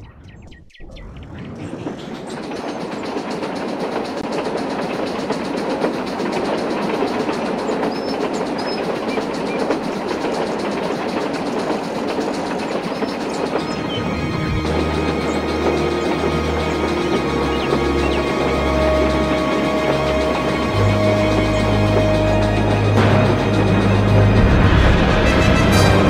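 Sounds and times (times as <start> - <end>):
train wheels on track: 1.2 - 26.0.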